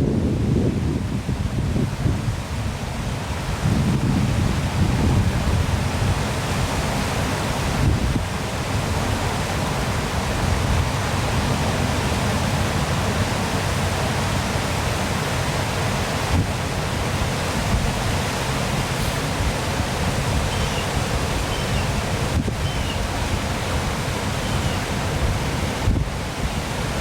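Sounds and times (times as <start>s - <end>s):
waterfall rushing: 0.7s - 27.0s.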